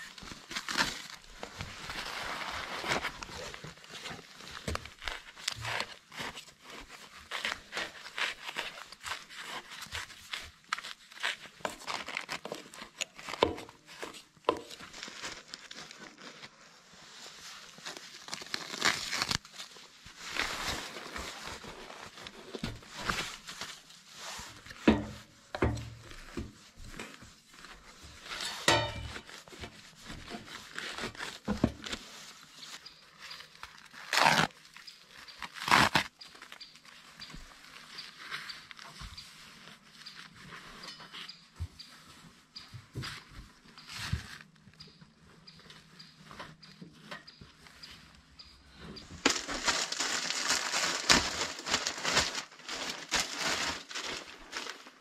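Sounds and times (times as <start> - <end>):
rustling and crinkling: 0.0 - 55.0.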